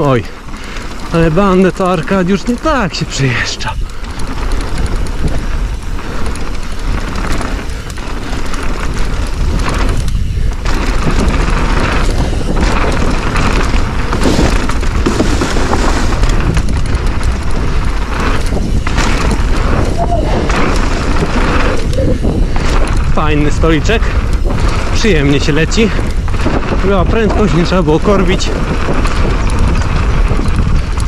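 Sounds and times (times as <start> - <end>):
mountain bike tyre and bike noise: 0.0 - 31.0
wind rushing over microphone: 0.0 - 31.0.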